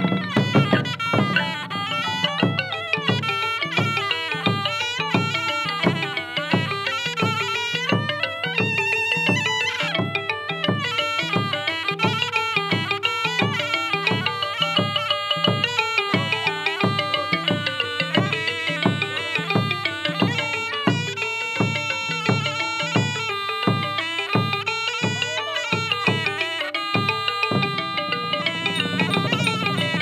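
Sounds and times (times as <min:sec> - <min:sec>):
reedy oboe melody: 0:00.0 - 0:30.0
steady drum beat: 0:00.0 - 0:30.0.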